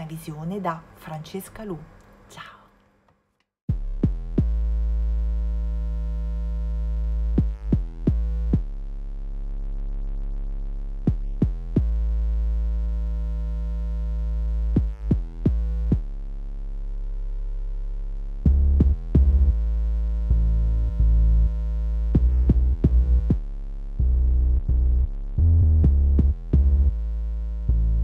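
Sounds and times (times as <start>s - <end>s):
low synthesizer tones with bass: 3.7s - 28.0s.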